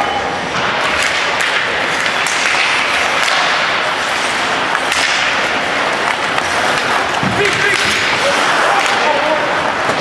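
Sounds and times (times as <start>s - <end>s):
arena noise: 0.0s - 10.0s
sticks striking puck: 0.6s - 10.0s.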